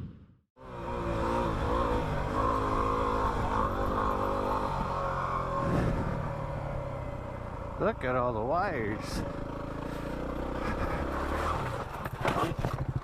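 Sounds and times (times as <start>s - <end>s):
dirt bike engine revving: 0.6s - 13.0s.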